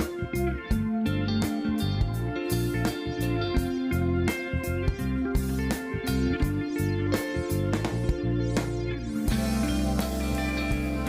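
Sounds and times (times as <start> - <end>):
plucked guitar over sustained chords: 0.0 - 11.0.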